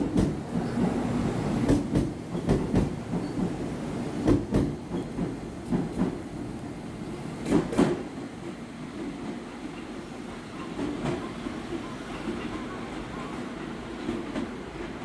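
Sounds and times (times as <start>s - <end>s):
train wheel clacks: 0.0s - 6.3s, 7.4s - 15.0s
train rumbling over rail joints: 0.0s - 6.6s, 7.3s - 15.0s.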